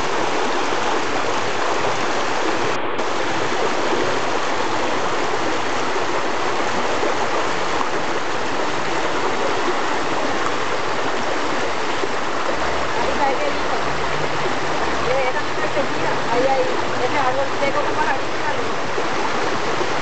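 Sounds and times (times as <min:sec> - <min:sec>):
river rushing over rock: 0:00.0 - 0:20.0.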